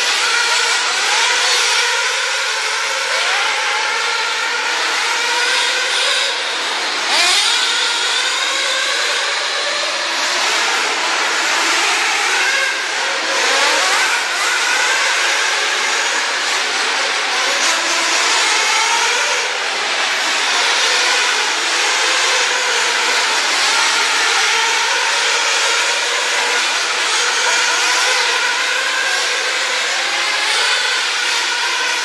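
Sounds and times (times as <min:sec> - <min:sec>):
rc car motors whining: 0:00.0 - 0:32.0.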